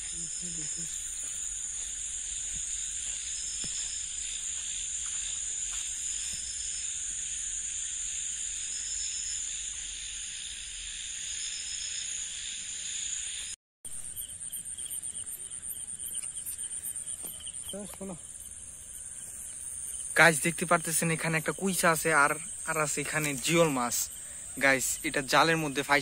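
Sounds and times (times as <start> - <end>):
insects chirping shrilly: 0.0 - 26.0.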